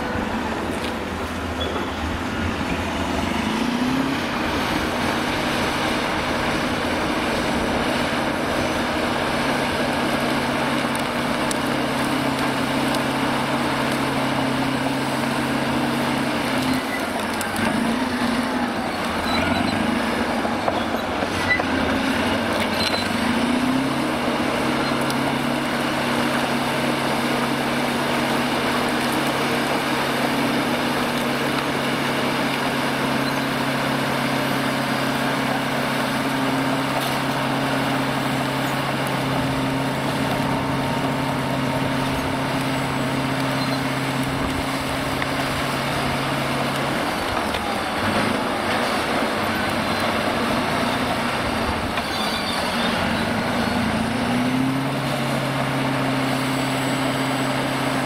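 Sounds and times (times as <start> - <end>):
bulldozer diesel engine droning: 0.0 - 58.0.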